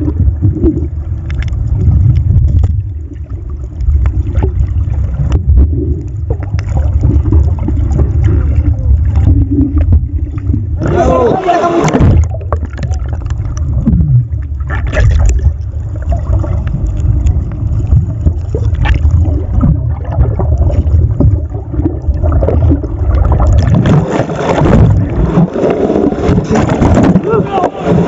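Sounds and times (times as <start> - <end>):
muffled underwater sloshing: 0.0 - 28.0
knocks and splashes: 4.0 - 16.7, 17.9 - 28.0.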